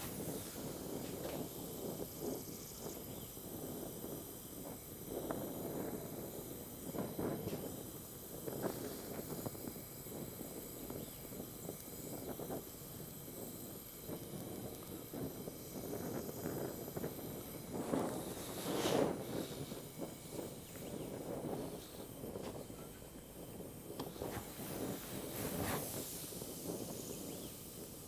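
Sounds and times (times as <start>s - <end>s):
torch flame hissing: 0.0s - 28.0s.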